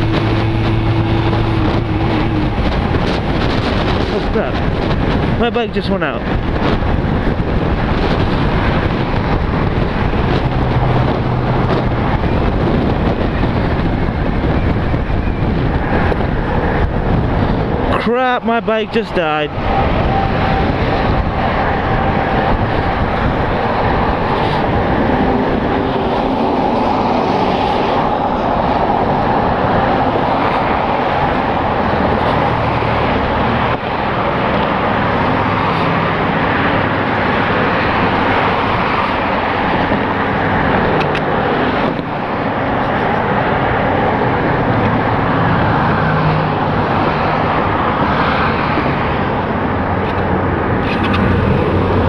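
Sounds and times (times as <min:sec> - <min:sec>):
motorcycle road noise: 0:00.0 - 0:52.0
passing traffic: 0:00.0 - 0:52.0
wind rushing: 0:00.0 - 0:52.0.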